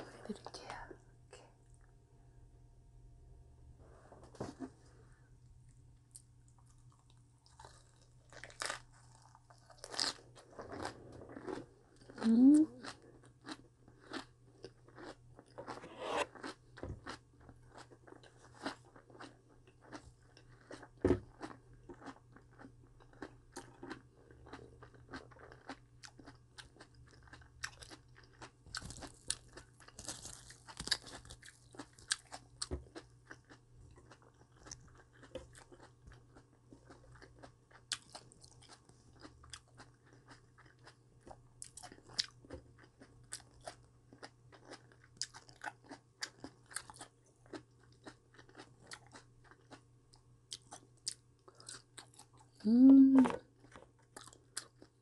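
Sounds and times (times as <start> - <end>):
faint steady hum: 0.0 - 55.0
crunchy chewing: 6.1 - 52.6, 53.6 - 55.0.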